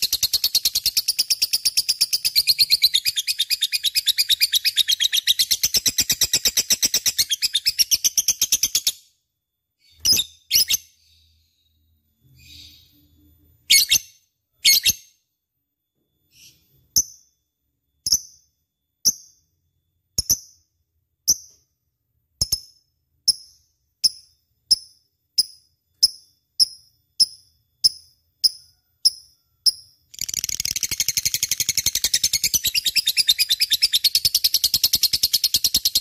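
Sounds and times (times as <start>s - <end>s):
lovebird sharp high chirps: 0.0s - 9.1s, 9.8s - 11.4s, 12.3s - 15.2s, 16.3s - 21.6s, 22.4s - 36.0s.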